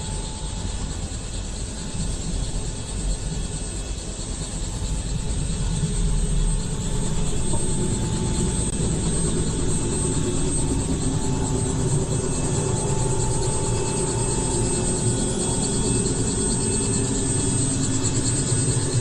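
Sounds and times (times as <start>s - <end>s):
helicopter turbine and rotor: 0.0s - 19.0s.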